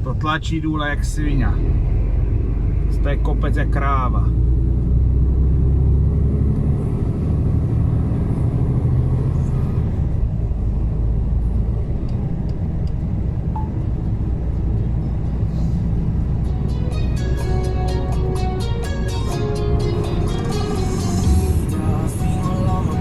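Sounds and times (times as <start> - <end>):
truck engine low rumble: 0.0 - 23.0.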